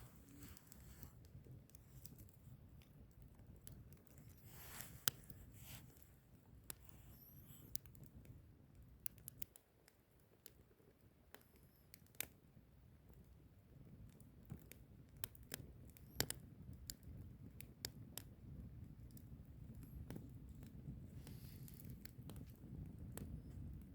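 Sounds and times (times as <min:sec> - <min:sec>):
low rumble of flame: 0:00.0 - 0:23.9
wood fire crackling: 0:00.0 - 0:23.9.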